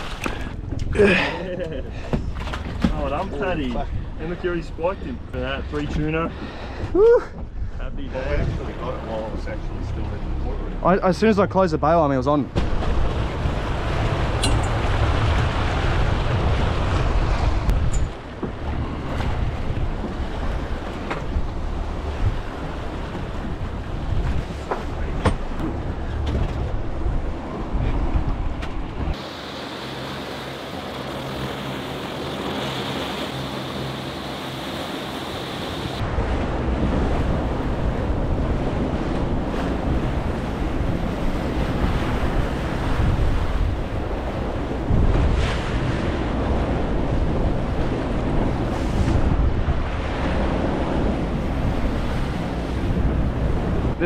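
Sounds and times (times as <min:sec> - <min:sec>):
wind buffeting microphone: 0:00.0 - 0:10.8, 0:12.5 - 0:29.2, 0:35.5 - 0:54.0
rushing water of boat wake: 0:00.0 - 0:54.0
waves washing: 0:00.0 - 0:54.0
outboard motor humming: 0:08.6 - 0:54.0.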